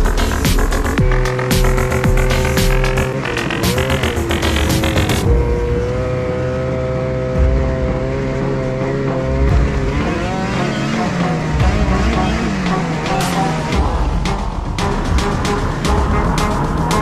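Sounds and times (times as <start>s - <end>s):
snowmobile engine running: 0.0s - 17.0s.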